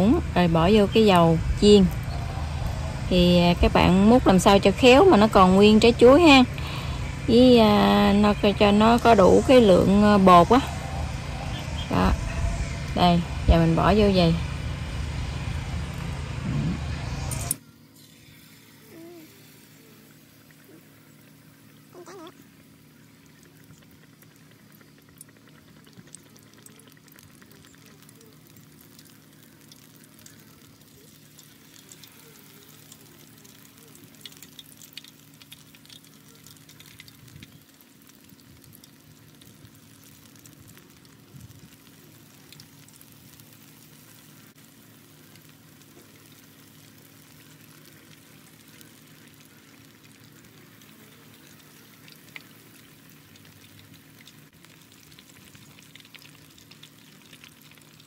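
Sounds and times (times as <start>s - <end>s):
steady low hum: 0.0s - 57.8s
food deep-frying in oil: 0.0s - 58.0s.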